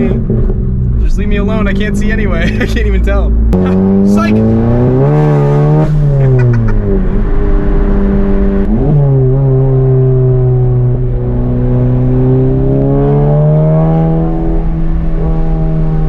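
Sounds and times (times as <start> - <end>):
car engine and exhaust while driving: 0.0 - 16.0.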